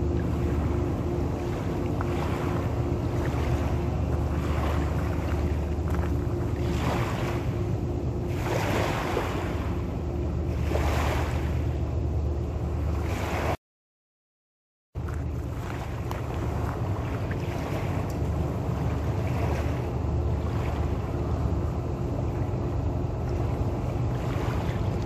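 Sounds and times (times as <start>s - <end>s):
water rushing and splashing: 0.0s - 12.0s, 15.0s - 25.0s
boat engine running: 0.0s - 13.6s, 15.0s - 25.0s.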